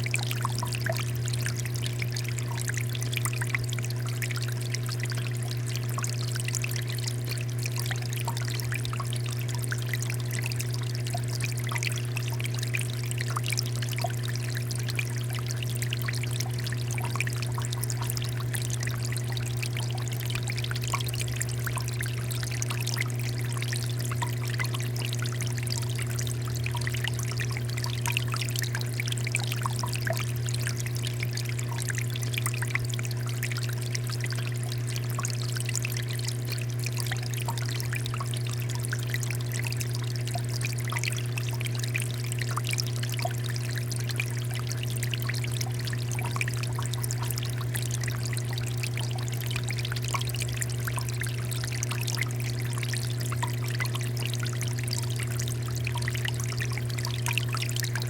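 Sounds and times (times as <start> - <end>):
steady low hum: 0.0 - 58.0
water dripping: 0.0 - 58.0.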